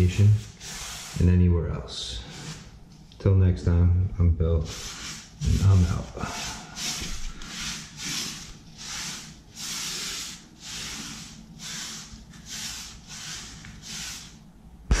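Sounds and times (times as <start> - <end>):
paintbrush strokes on ceiling: 0.0 - 2.8, 4.6 - 15.0.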